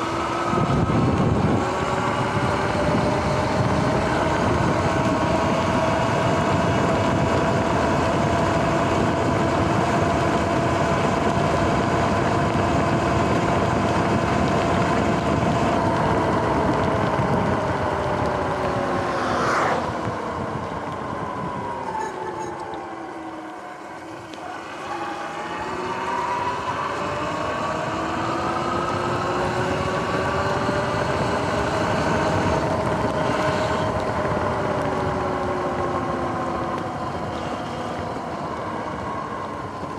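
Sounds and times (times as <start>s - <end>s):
wind on microphone: 0.0s - 24.2s, 25.0s - 39.9s
electric motor whining: 0.0s - 39.9s.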